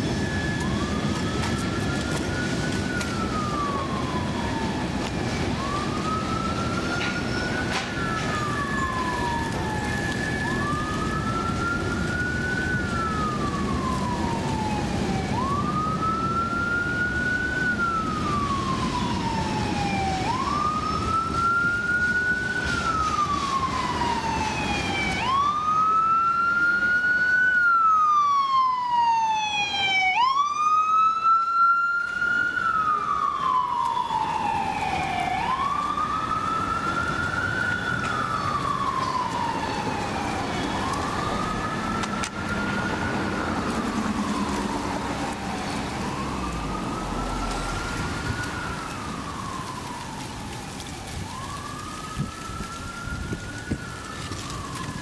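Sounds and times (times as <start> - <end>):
faster higher siren sweeps: 0.0 - 55.0
wailing siren: 0.0 - 55.0.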